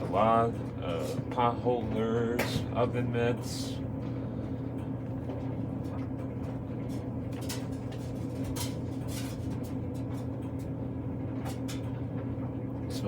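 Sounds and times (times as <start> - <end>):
clothes dryer humming: 0.0 - 13.0.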